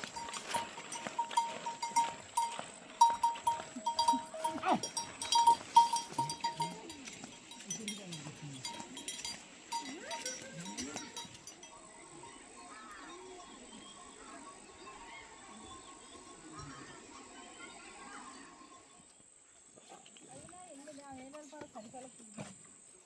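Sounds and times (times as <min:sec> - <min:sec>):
livestock bells clinking: 0:00.0 - 0:19.1.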